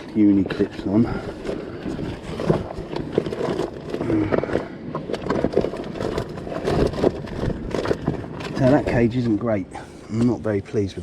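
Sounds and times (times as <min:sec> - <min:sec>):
fishing tackle clicks and scrapes: 0:00.0 - 0:10.6.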